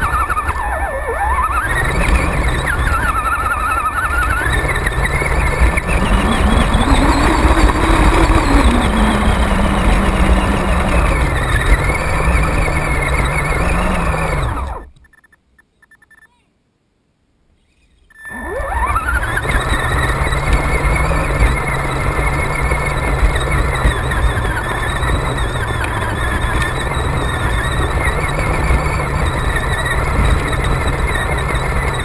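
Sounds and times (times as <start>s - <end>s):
toy car motor whining: 0.0s - 15.3s, 18.1s - 32.0s.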